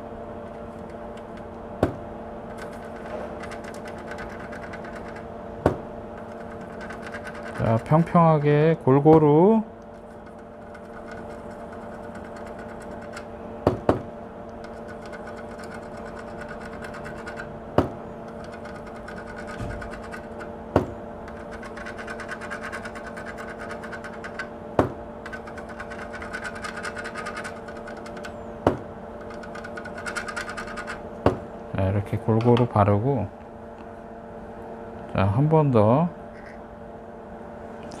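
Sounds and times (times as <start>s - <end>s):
small fan motor humming: 0.0s - 38.0s.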